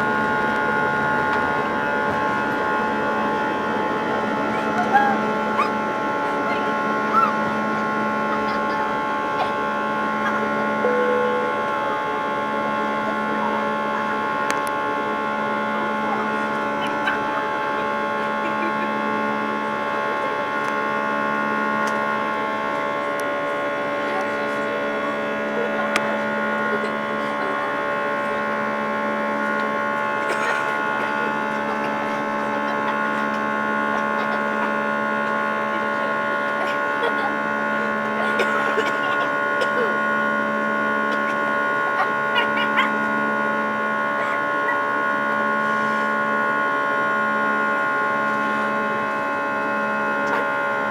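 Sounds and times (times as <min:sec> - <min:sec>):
airplane cabin drone: 0:00.0 - 0:50.9.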